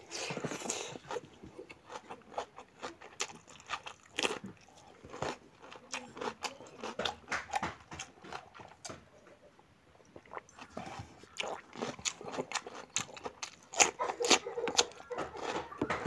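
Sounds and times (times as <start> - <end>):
chewing with mouth smacks: 0.1 - 9.3, 10.0 - 16.0.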